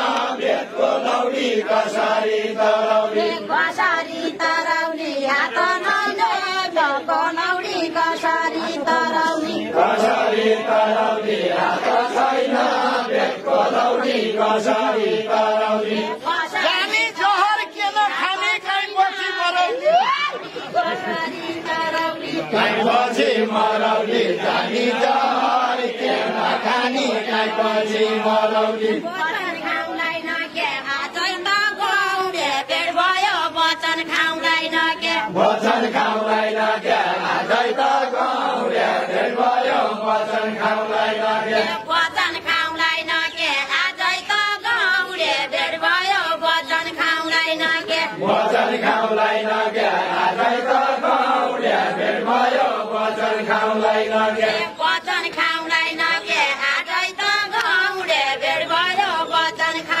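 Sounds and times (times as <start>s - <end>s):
group singing folk song: 0.0s - 60.0s.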